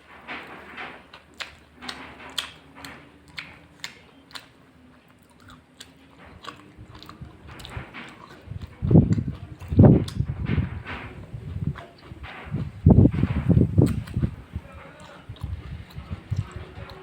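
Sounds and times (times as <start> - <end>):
wet chewing mouth smacks: 0.6 - 17.0.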